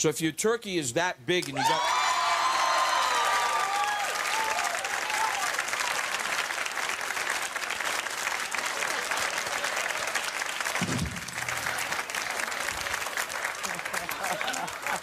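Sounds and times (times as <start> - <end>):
audience applauding: 1.6 - 15.0.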